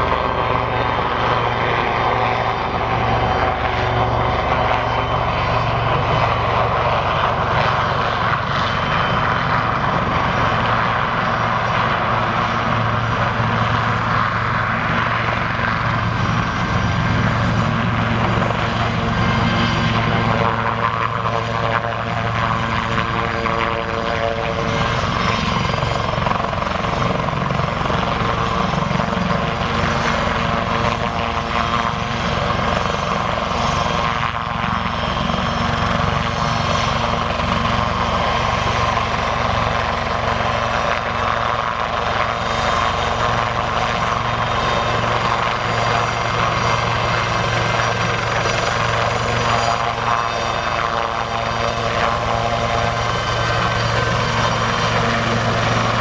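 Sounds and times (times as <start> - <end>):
helicopter rotor: 0.0 - 56.0
turbine whine: 0.0 - 56.0.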